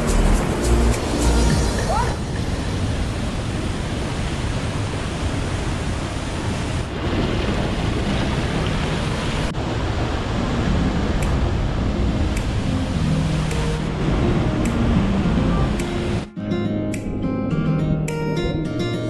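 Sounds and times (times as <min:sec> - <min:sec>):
water rushing over rocks: 0:00.0 - 0:16.3.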